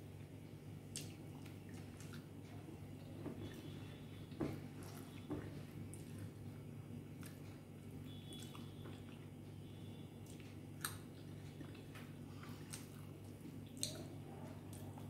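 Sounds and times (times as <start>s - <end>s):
soft chewing: 0.2s - 15.0s.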